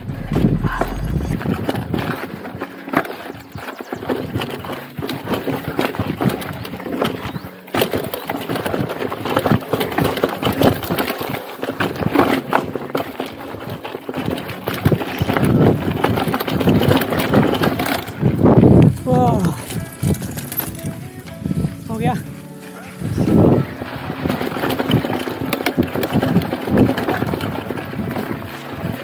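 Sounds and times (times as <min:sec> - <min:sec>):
bike rattling over rocks: 0:00.0 - 0:29.0
tyre noise on dirt: 0:00.0 - 0:29.0.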